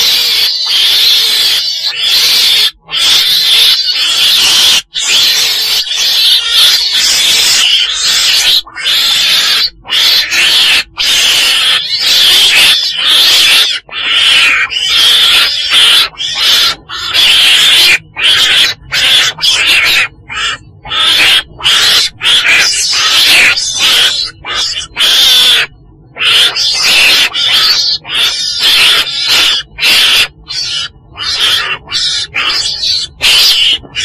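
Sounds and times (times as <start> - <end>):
weasel raspy calls: 0.0 - 34.0.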